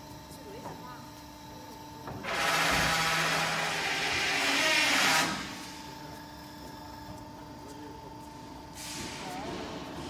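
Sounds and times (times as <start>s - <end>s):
machine hum with thin whine: 0.0s - 10.0s.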